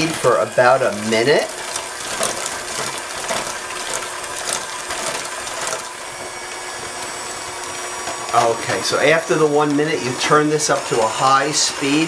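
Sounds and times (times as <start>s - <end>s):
spatula scraping bowl: 0.0s - 12.0s
stand mixer running: 0.0s - 12.0s.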